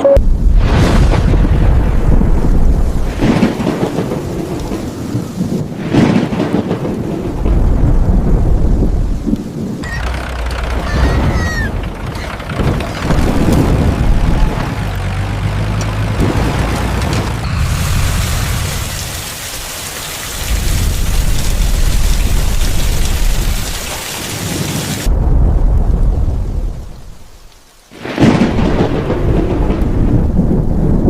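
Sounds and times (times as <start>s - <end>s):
heavy rain: 0.0s - 31.0s
rolling thunder: 0.2s - 31.0s.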